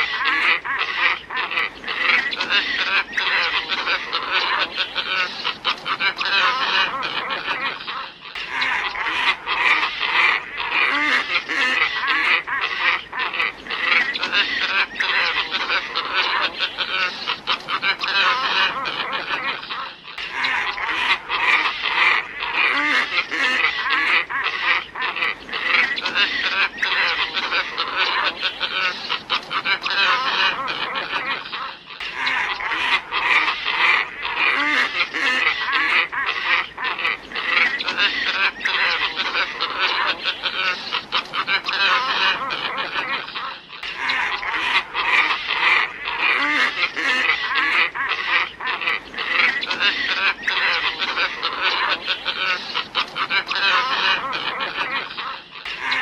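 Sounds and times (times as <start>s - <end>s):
ibis calling: 0.0s - 56.0s.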